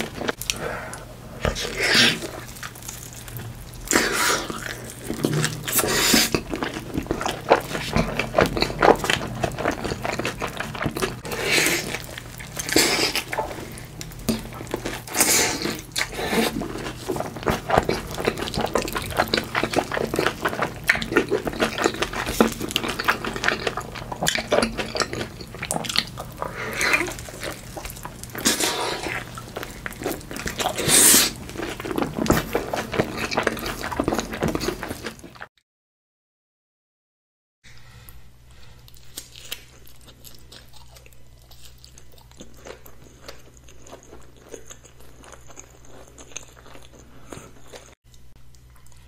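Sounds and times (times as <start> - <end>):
crunchy chewing: 0.0 - 35.5, 38.8 - 49.0.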